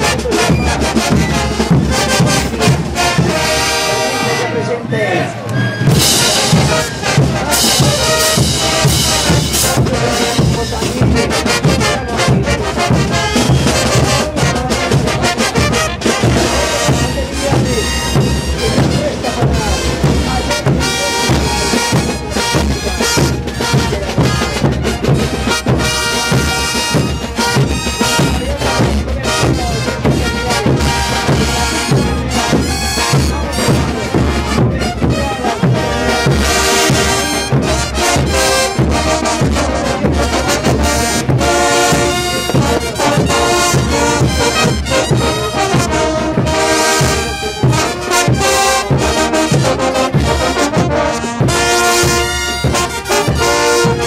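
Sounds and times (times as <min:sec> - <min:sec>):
bass drums beating: 0:00.0 - 0:04.1, 0:05.8 - 0:54.0
brass band playing: 0:00.0 - 0:54.0.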